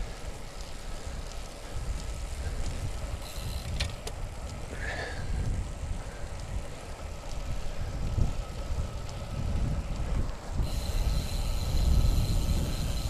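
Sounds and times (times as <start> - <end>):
tyres on road: 0.0 - 13.0
wind rumbling on microphone: 0.0 - 13.0.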